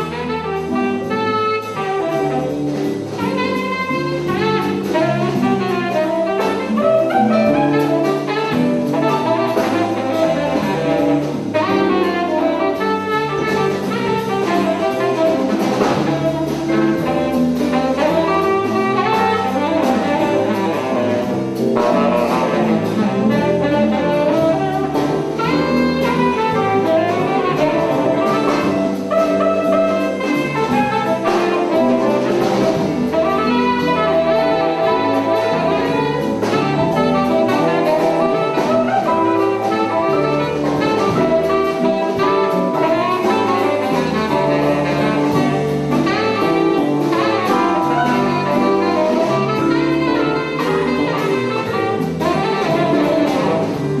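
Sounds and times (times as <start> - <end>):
drum kit: 0.0 - 54.0
horns: 0.0 - 54.0
jazz ensemble playing: 0.0 - 54.0.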